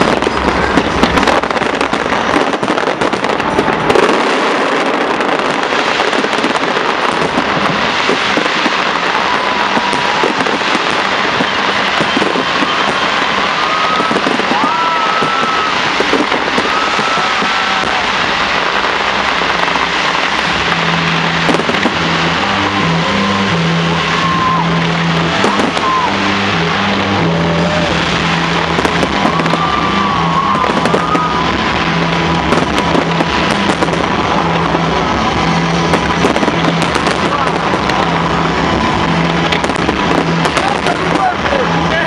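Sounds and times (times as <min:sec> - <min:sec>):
fireworks crackling and banging: 0:00.0 - 0:42.0
whistling fireworks: 0:00.0 - 0:42.0.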